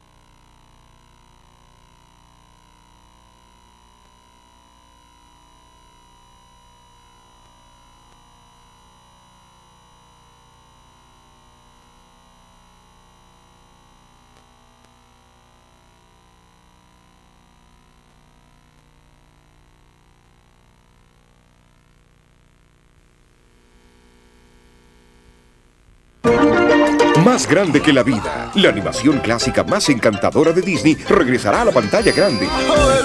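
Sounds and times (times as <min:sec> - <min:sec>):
low electrical hum: 0:00.0 - 0:26.6
faint steady electronic tone: 0:00.0 - 0:33.0
tape hiss: 0:00.0 - 0:33.0.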